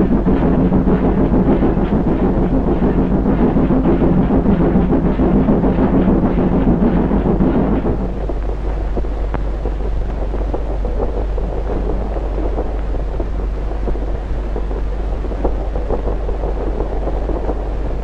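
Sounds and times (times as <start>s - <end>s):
low film soundtrack hum: 0.0s - 18.0s.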